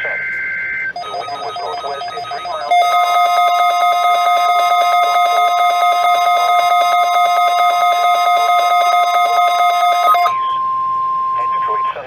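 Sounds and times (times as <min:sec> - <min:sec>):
loud steady electronic tone: 0:00.0 - 0:12.0.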